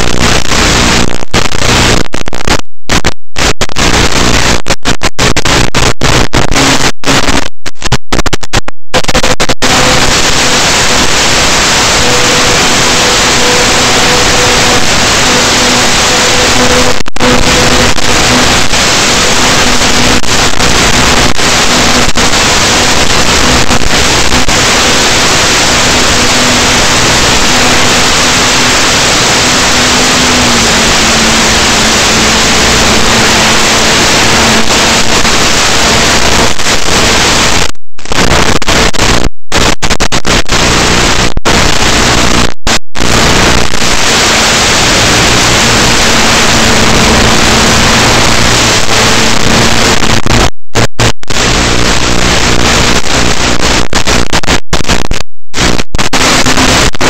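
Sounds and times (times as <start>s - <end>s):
loud static hiss: 0.0s - 57.0s.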